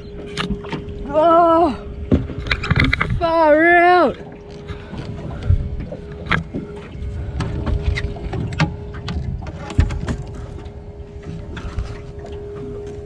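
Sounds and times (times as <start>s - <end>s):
low hum and rumble: 0.0s - 13.0s.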